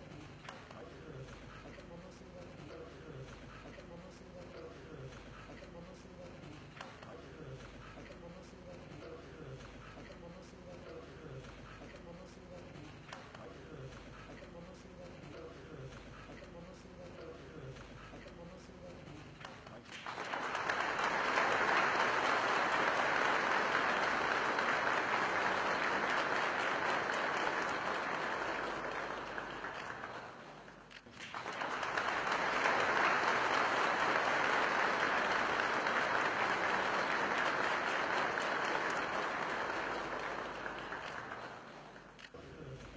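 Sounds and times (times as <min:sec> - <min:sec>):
applause: 0:00.0 - 0:42.8.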